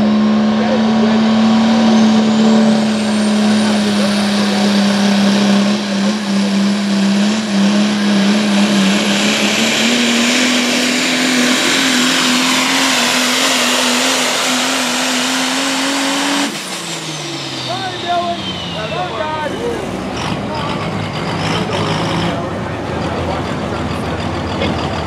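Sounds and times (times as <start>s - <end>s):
diesel engine at high revs: 0.0s - 25.0s.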